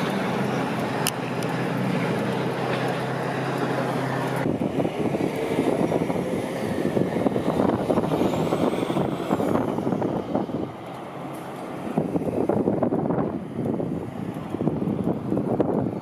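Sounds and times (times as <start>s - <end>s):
road traffic passing: 0.0s - 16.0s
semi-truck passing: 0.0s - 16.0s
steady engine hum: 0.0s - 16.0s.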